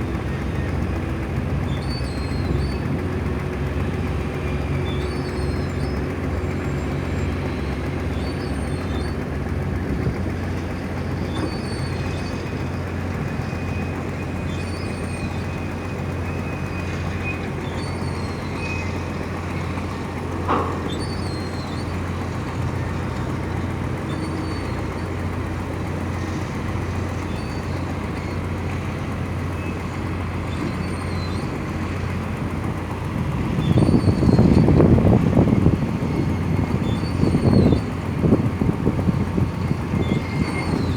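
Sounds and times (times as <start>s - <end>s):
tugboat engine droning: 0.0s - 40.9s.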